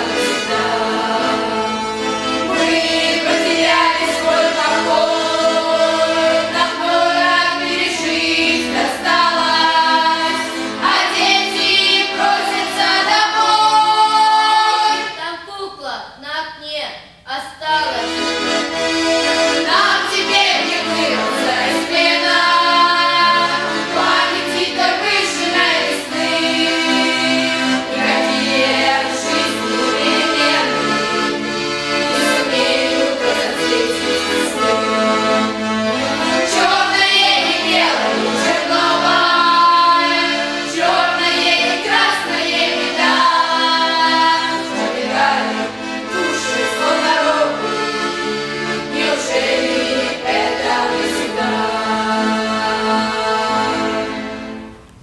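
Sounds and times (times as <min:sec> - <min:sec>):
button accordion: 0:00.0 - 0:15.2, 0:17.7 - 0:55.0
girls' choir singing: 0:00.0 - 0:15.2, 0:18.0 - 0:54.8.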